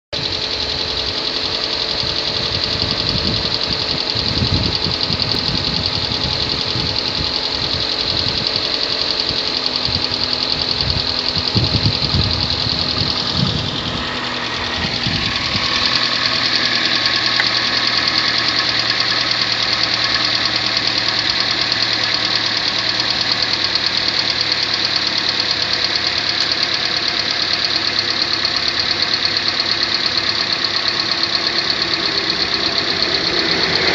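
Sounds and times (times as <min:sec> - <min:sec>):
car engine knocking: 0:00.1 - 0:33.9
engine hum: 0:00.1 - 0:33.9.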